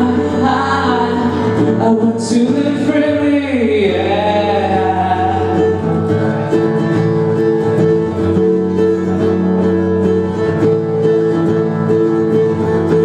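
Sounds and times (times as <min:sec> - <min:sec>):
guitar playing plucked notes: 0:00.0 - 0:13.0.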